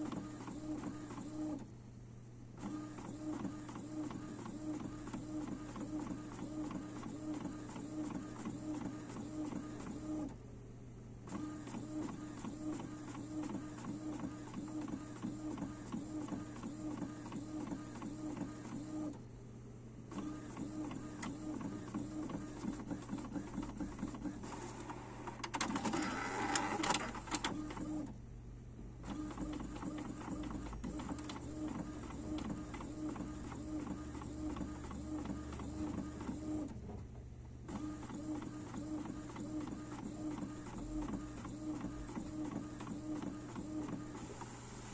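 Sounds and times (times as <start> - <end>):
inkjet printer printing: 0.0 - 1.6, 2.6 - 10.4, 11.3 - 19.2, 20.1 - 28.1, 29.0 - 37.0, 37.7 - 44.9.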